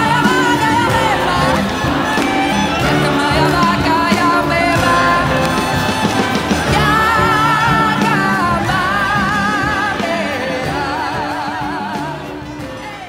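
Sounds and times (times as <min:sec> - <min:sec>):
instrumental backing music: 0:00.0 - 0:13.0
people singing with vibrato: 0:00.0 - 0:13.0.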